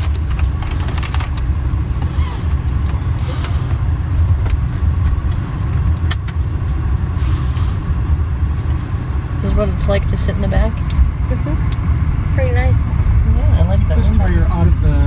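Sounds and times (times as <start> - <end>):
vehicle road rumble from inside: 0.0 - 15.0.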